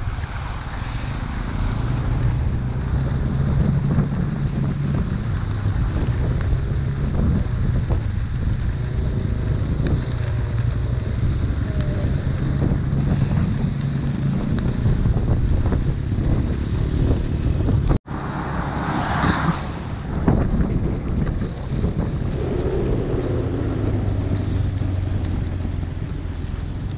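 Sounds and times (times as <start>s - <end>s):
vehicle engines running: 0.0s - 26.9s
wind buffeting microphone: 0.0s - 26.9s.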